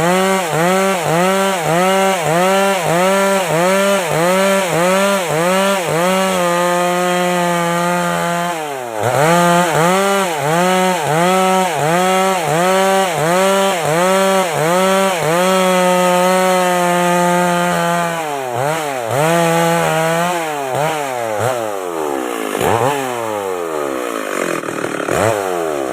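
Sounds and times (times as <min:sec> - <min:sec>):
chainsaw sawing timber: 0:00.0 - 0:25.9.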